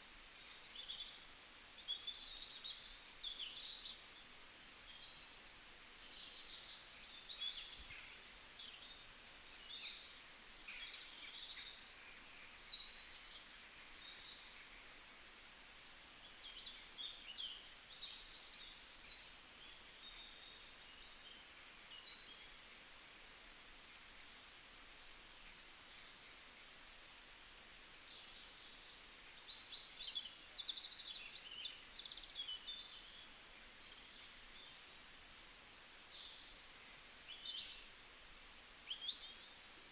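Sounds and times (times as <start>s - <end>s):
faint hiss: 0.0s - 39.9s.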